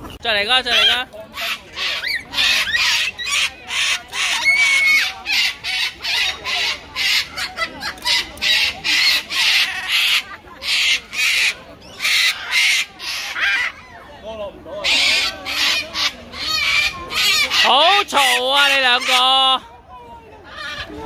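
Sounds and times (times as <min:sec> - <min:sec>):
cockatoos screeching: 0:00.6 - 0:14.0, 0:14.8 - 0:19.4.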